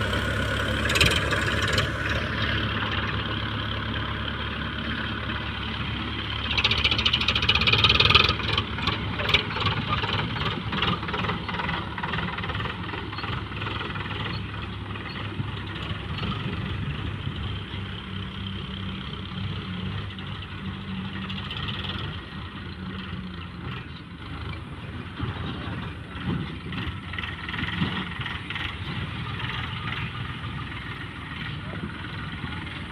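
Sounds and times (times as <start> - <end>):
heavy diesel engine running: 0.0 - 32.9.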